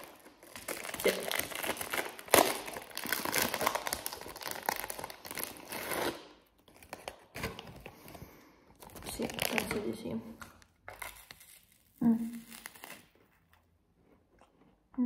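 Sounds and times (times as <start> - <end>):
plastic snack wrapper rustling: 0.0 - 14.9.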